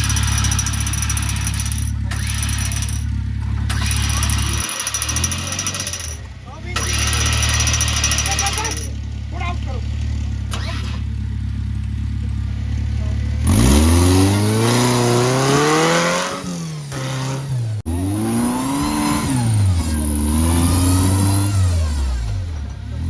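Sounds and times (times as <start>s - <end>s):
engine revving: 0.0s - 23.0s.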